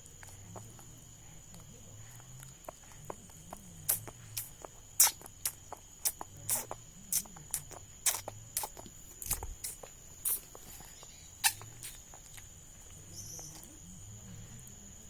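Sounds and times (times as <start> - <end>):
baby sucking and chewing: 0.0 - 13.8.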